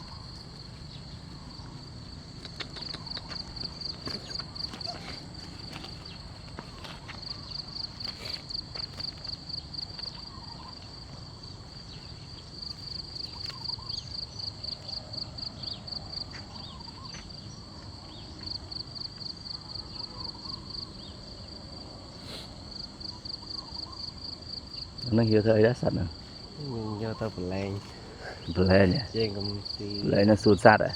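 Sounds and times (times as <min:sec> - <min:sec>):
cricket chirping trill: 0:00.0 - 0:30.9.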